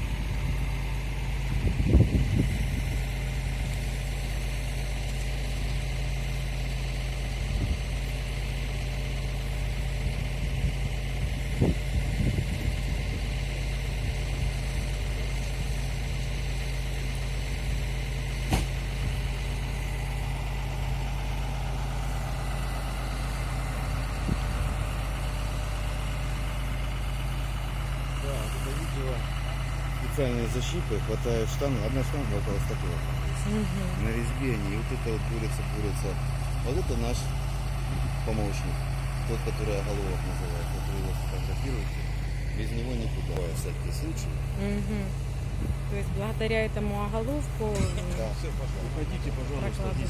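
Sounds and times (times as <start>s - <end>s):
drilling rig engine humming: 0.0s - 50.0s.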